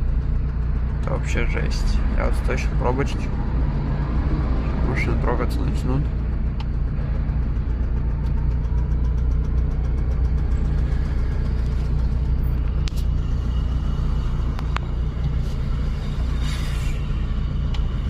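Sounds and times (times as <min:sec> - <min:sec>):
faint regular ticking: 0:00.0 - 0:15.4
car engine idling: 0:00.0 - 0:18.0.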